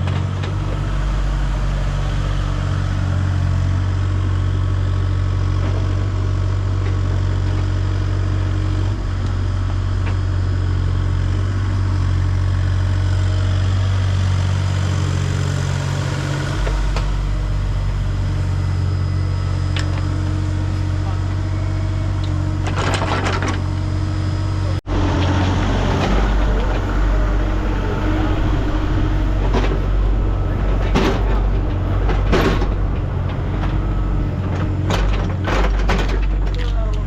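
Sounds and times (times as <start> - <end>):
truck engine droning: 0.0 - 37.0.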